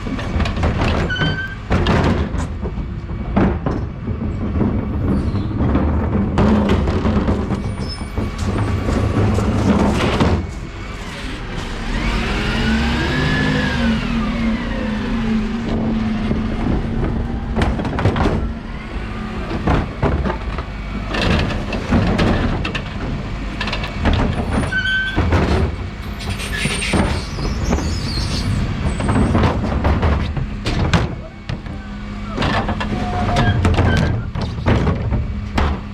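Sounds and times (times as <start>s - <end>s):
knocks and clatters: 0.0s - 12.1s, 15.6s - 18.6s, 19.4s - 31.8s, 32.4s - 35.9s
truck engine hum: 3.9s - 35.9s.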